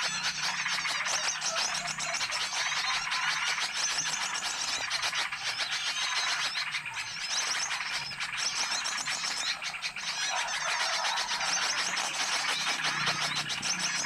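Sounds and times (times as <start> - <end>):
chorus of small birds chirping: 0.0 - 14.0.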